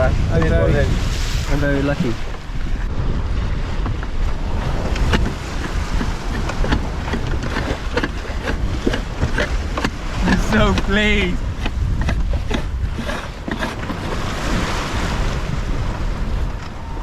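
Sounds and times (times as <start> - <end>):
sea rushing: 0.0 - 17.0
wind buffeting microphone: 0.0 - 17.0.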